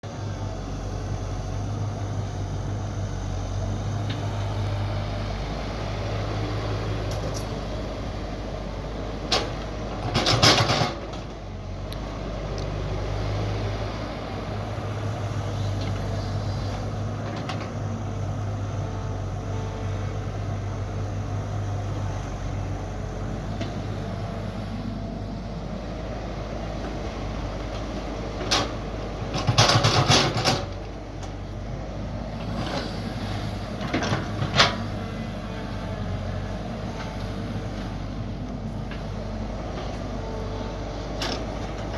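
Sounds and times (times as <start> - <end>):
excavator engine running: 0.0 - 41.9.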